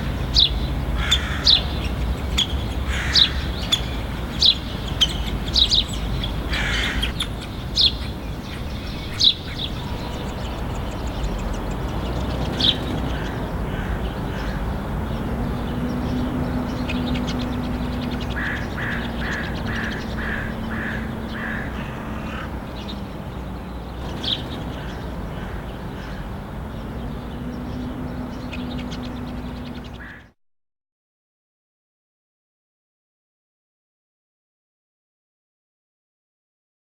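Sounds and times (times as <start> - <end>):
low hum and rumble: 0.0 - 30.3
woodpecker calls: 0.0 - 30.3.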